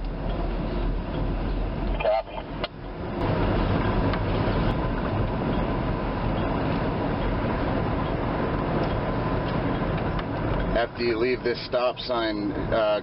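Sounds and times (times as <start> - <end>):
vehicle engine rumble with hiss: 0.0 - 13.0.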